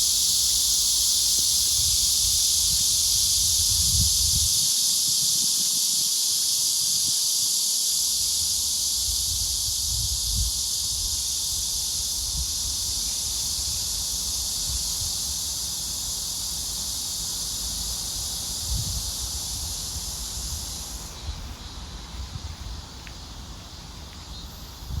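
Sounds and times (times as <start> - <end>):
cicadas buzzing: 0.0 - 25.0.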